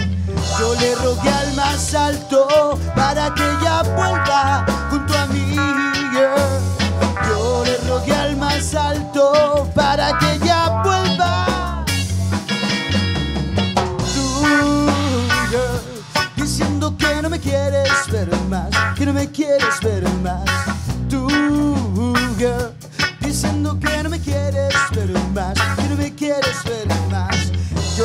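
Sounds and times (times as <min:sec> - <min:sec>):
drum kit: 0:00.0 - 0:28.0
electric bass: 0:00.0 - 0:28.0
electric guitars: 0:00.0 - 0:28.0.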